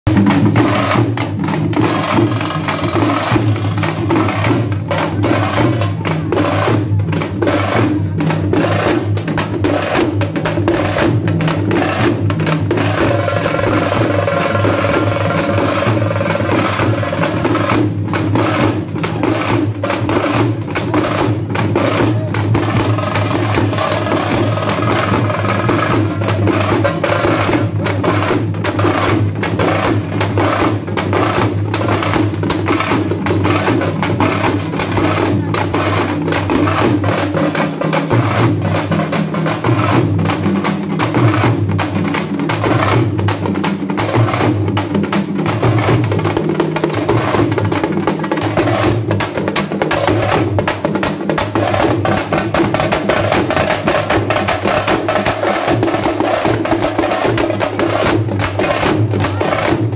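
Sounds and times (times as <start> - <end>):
fast folk drumming: 0.0 - 59.9.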